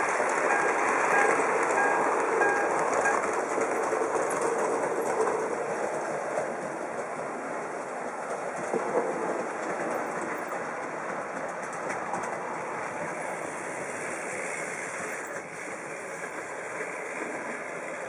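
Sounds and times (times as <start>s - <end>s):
model train rattling on track: 0.0s - 18.0s.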